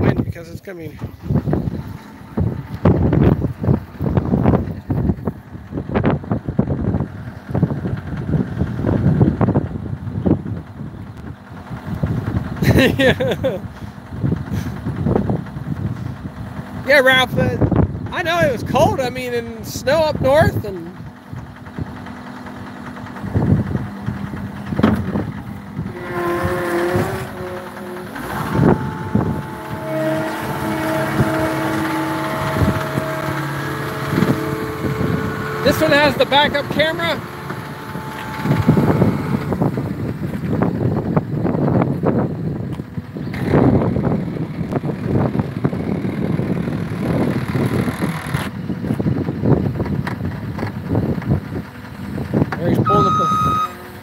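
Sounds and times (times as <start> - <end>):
gusting wind buffeting microphone: 0.0 - 54.0
loader diesel engine running: 0.0 - 54.0.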